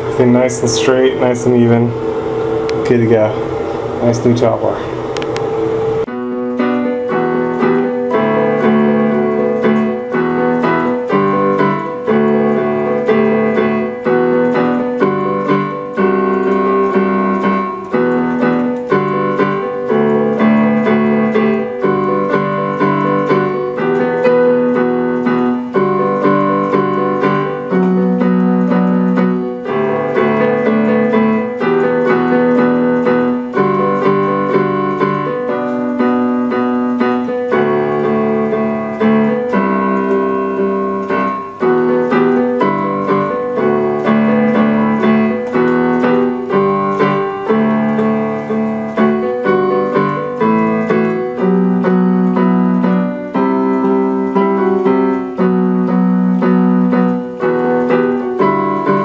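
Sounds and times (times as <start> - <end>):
electric piano chords: 0.0 - 59.0.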